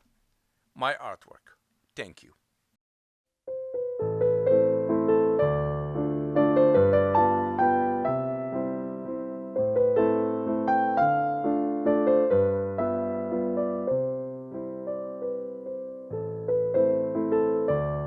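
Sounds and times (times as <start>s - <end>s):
slow piano melody: 3.4s - 18.0s.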